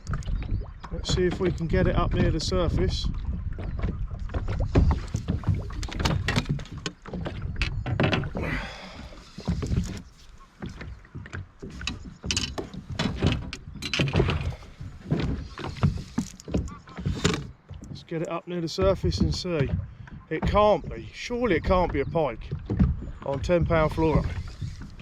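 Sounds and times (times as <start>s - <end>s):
knocks and clicks on plastic boat: 0.0s - 25.0s.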